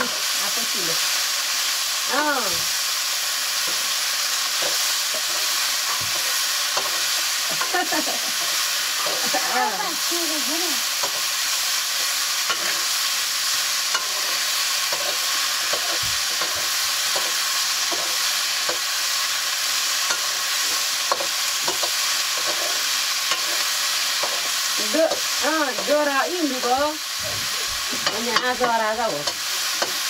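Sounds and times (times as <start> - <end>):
food sizzling in a wok: 0.0 - 30.0
spatula scraping a pan: 3.5 - 10.1, 10.9 - 30.0.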